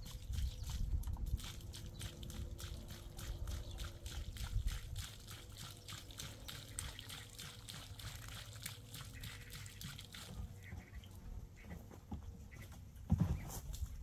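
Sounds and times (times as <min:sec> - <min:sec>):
liquid trickling and splashing: 0:00.0 - 0:11.3.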